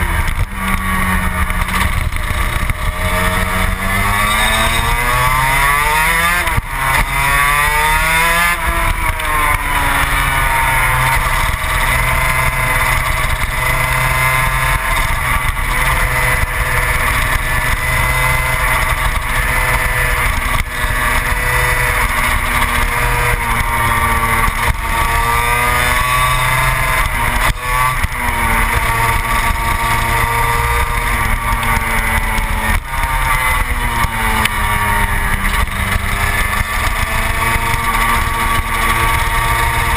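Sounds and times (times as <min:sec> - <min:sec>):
two-stroke kart engine revving: 0:00.0 - 0:39.9.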